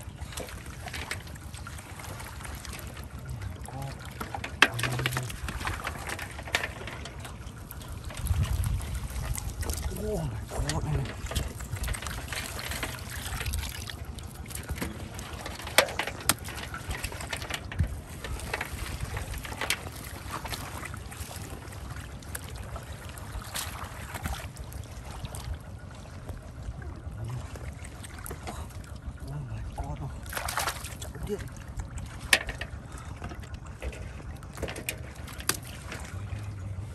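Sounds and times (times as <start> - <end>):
muddy water sloshing: 0.0 - 36.9
steady low rumble: 0.0 - 36.9.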